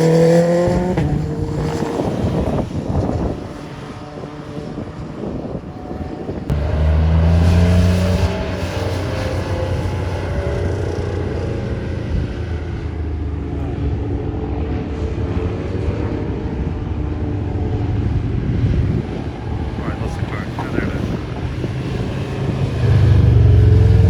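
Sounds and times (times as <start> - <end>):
vehicle engine passing: 0.0 - 14.0, 18.5 - 24.0.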